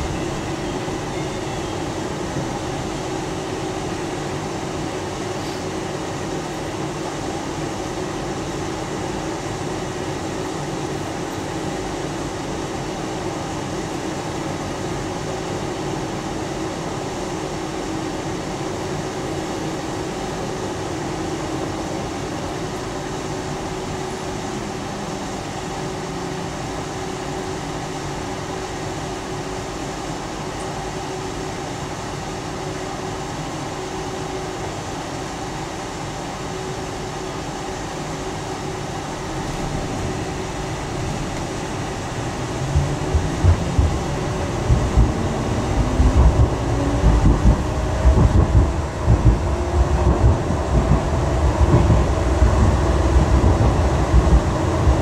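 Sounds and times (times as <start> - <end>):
tram wheels rumbling on rails: 0.0 - 55.0.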